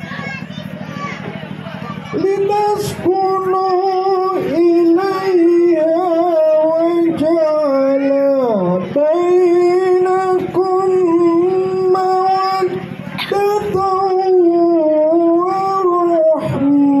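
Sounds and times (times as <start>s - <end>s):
man chanting into a microphone: 2.2s - 17.0s.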